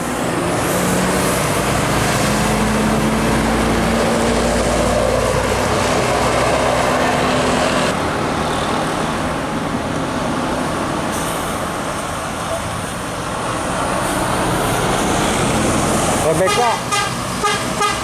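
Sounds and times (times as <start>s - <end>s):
coach diesel engine: 0.0s - 18.0s
tyre and road noise: 0.0s - 18.0s.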